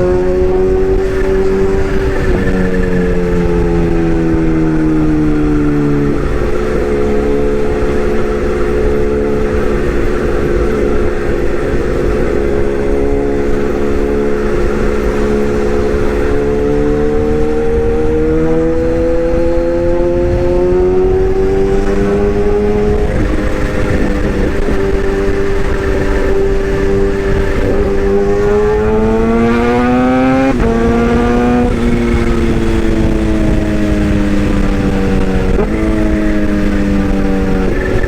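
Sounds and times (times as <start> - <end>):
excavator engine: 0.0 - 38.0.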